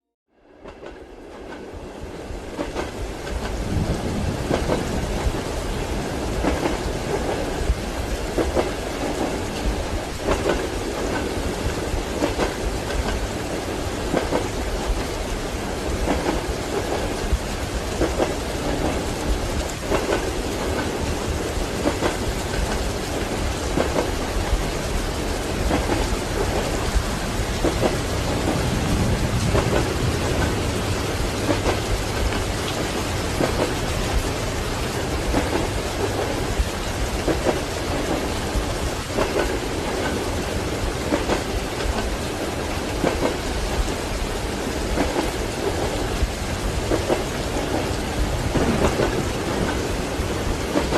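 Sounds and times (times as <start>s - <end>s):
heavy rain: 0.4s - 50.9s
train wheels clacking on rails: 0.6s - 50.9s
low rumble of thunder: 2.3s - 43.9s, 44.8s - 50.9s.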